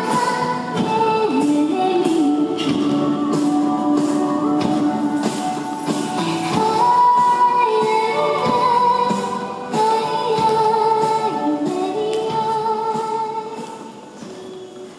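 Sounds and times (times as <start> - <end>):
woman singing pop song: 0.0 - 14.0.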